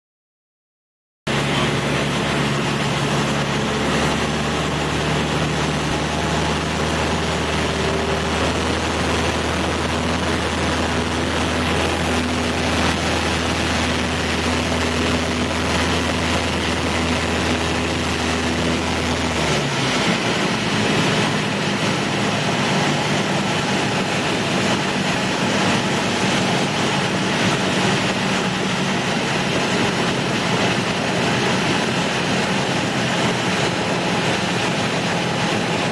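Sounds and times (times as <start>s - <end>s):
airplane engine and propeller droning: 1.3s - 35.9s.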